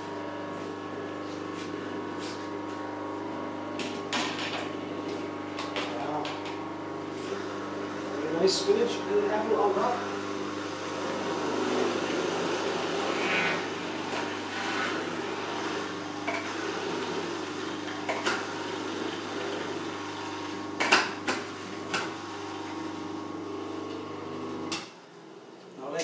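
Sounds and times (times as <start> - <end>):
juicer motor humming: 0.0 - 26.0.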